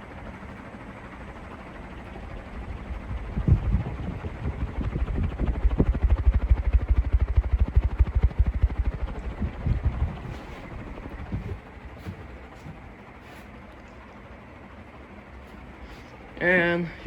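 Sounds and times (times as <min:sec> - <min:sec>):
fan wind buffeting microphone: 0:00.0 - 0:17.0
industrial fan running: 0:00.0 - 0:17.0.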